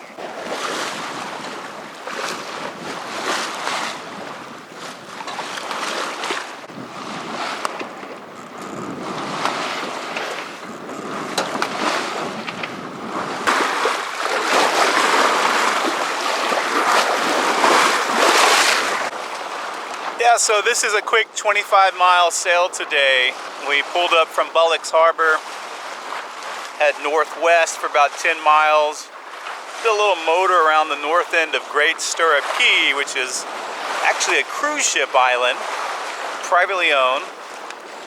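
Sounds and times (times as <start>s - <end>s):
water rushing along hull: 0.0s - 38.0s.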